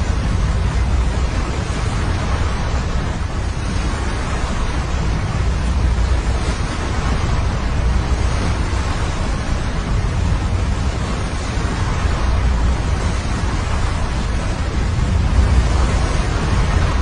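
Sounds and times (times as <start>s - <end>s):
wind blowing hard: 0.0s - 17.0s
wind buffeting microphone: 0.0s - 17.0s.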